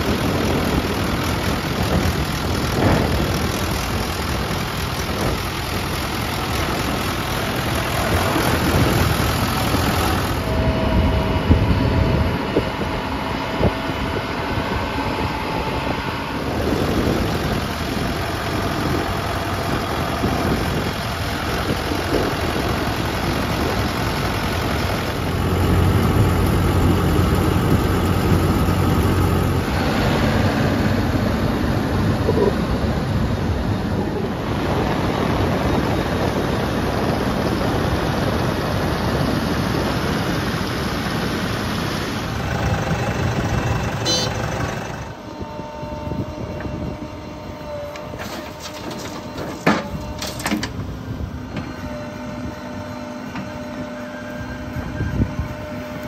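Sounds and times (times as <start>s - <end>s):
tyre and road noise: 0.0s - 53.9s
backhoe loader engine: 0.0s - 56.0s
diesel tractor engine running: 0.0s - 56.0s.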